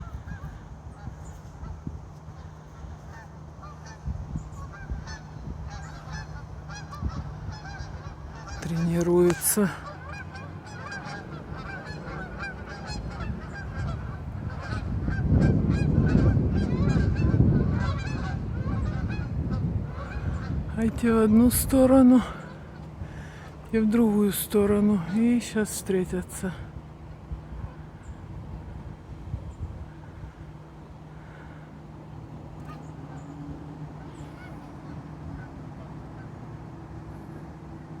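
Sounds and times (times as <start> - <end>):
geese honking: 0.0 - 26.6, 29.9 - 37.8
steady low hum: 0.0 - 38.0.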